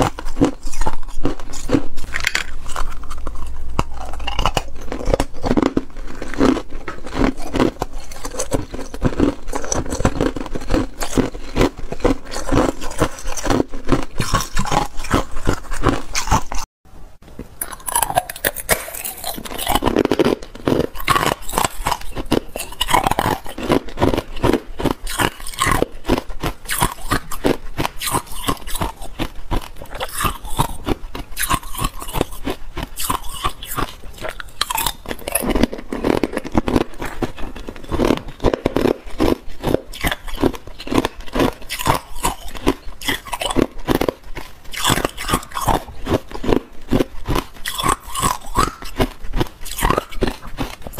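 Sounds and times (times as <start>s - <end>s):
ice crunching between teeth: 0.0s - 16.7s, 17.6s - 50.9s.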